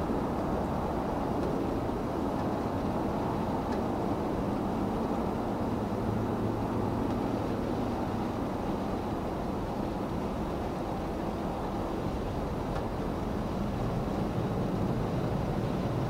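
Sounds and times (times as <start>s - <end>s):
jet engines low rumble: 0.0s - 16.0s.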